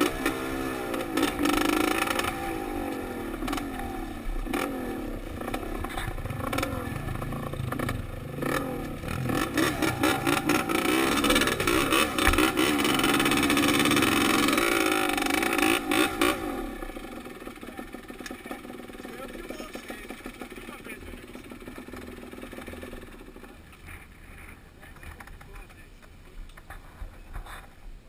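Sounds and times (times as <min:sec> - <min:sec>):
dirt bike engine revving: 0:00.0 - 0:24.4.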